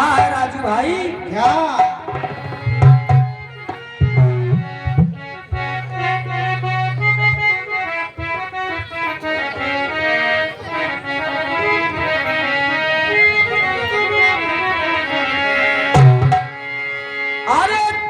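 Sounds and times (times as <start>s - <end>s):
harmonium playing: 0.0s - 18.0s.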